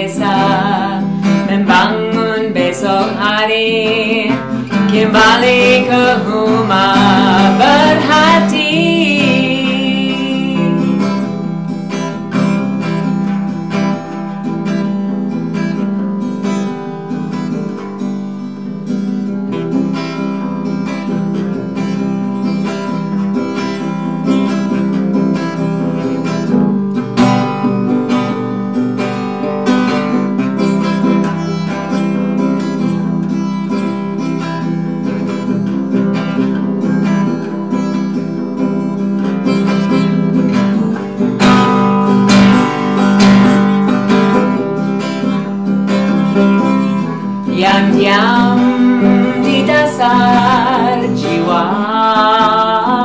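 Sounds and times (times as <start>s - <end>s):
fingerpicked acoustic guitar: 0.0s - 53.0s.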